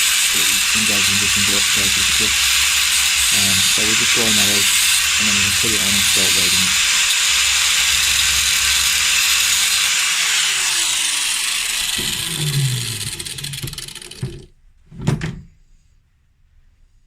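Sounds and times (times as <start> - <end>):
power grinder grinding steel: 0.0 - 14.5.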